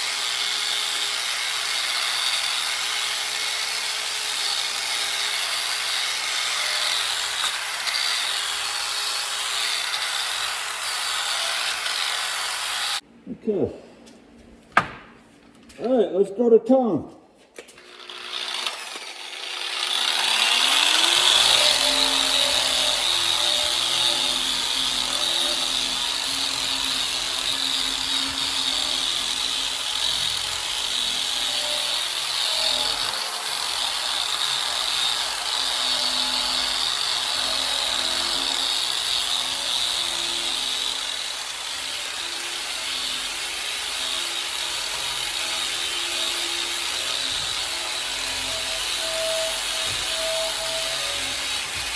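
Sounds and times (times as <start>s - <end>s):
power tool wire wheel spinning: 0.0s - 13.0s, 17.8s - 51.9s.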